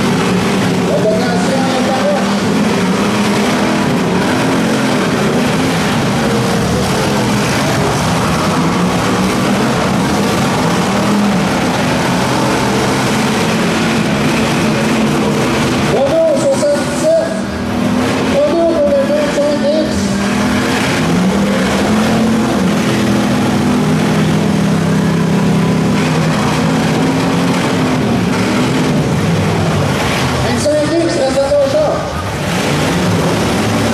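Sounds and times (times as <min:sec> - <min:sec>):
car engines revving: 0:00.0 - 0:33.9
cars ramming each other: 0:00.0 - 0:33.9.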